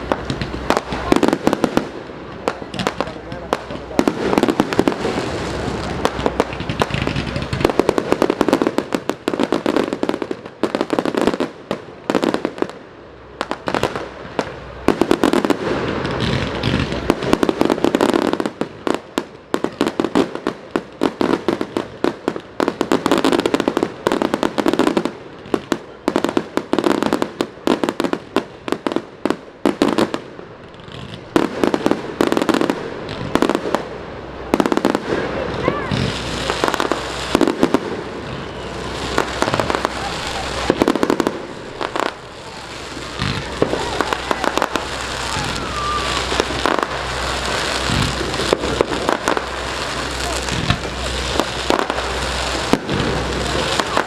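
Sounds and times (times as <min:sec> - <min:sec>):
firecracker bangs and crackling: 0:00.0 - 0:54.0
heavy firework booms: 0:00.0 - 0:54.0.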